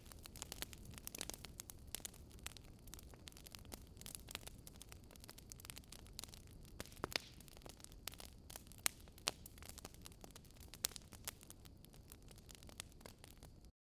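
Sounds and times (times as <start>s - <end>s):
low rumble of burning fire: 0.0s - 13.7s
wood fire crackling and popping: 0.0s - 13.7s.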